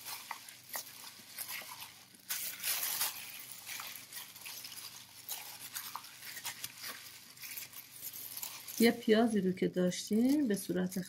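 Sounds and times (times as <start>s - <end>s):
squishing of kneaded meat: 0.0s - 11.0s.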